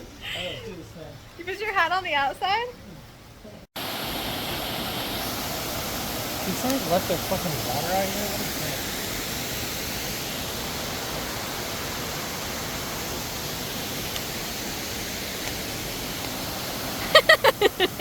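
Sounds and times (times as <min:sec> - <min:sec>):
rushing water: 0:03.1 - 0:18.0.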